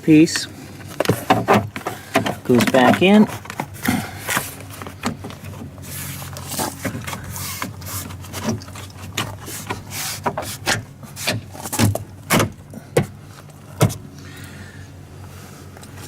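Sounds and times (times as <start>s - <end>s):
low steady hum: 0.0s - 16.0s
plastic trim rustling and scraping: 0.2s - 14.0s.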